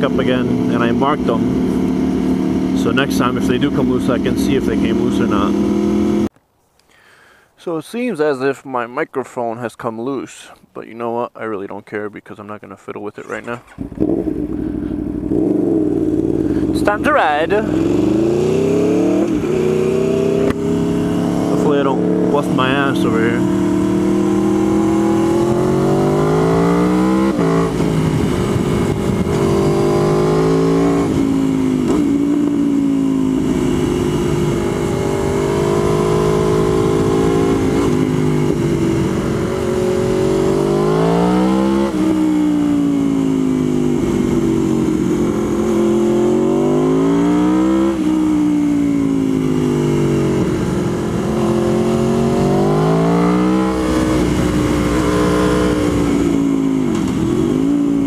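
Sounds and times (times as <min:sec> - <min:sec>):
motorcycle engine revving: 0:00.0 - 0:06.3, 0:13.4 - 0:58.0.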